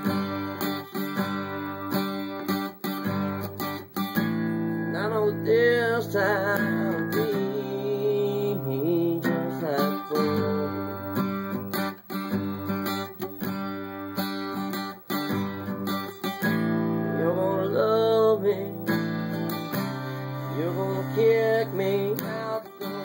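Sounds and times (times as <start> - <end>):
country music with acoustic guitar: 0.0 - 23.0.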